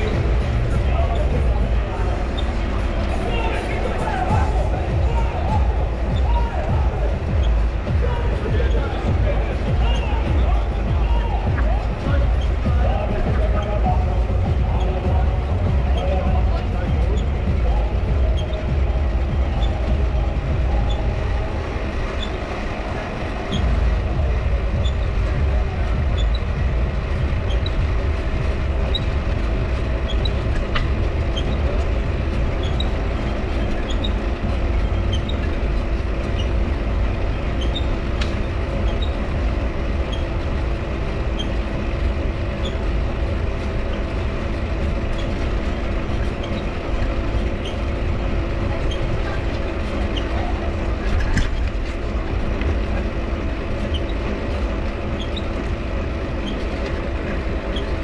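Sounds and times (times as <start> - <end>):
bike crank squeaking: 0.0 - 58.0
bike dynamo humming: 0.0 - 58.0
low rumble: 0.0 - 58.0.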